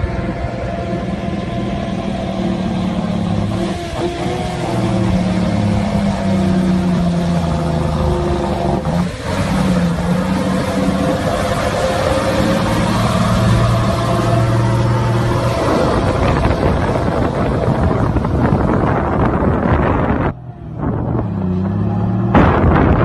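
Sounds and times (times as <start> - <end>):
truck diesel engine pulling: 0.0 - 23.0.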